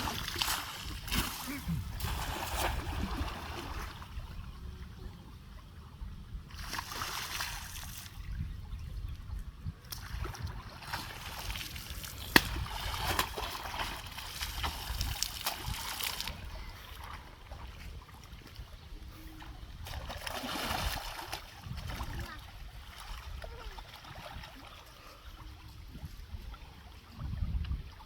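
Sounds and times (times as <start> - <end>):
water splashing and sloshing: 0.0 - 5.0, 6.5 - 28.0.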